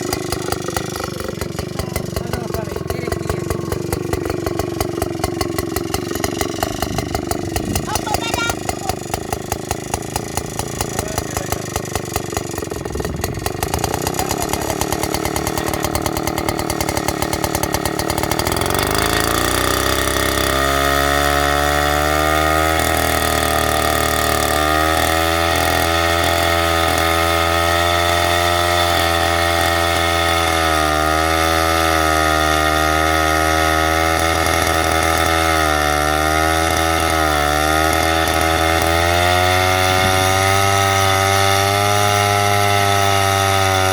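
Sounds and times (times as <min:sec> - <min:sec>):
chainsaw engine revving: 0:00.0 - 0:43.9.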